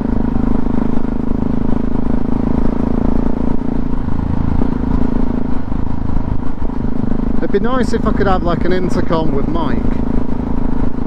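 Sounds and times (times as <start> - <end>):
motorcycle engine cruising: 0.0 - 11.0
road and wind noise: 0.0 - 11.0.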